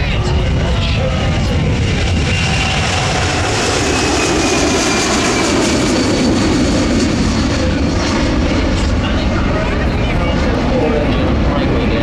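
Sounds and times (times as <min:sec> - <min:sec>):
jet roar with whine: 0:00.0 - 0:12.0.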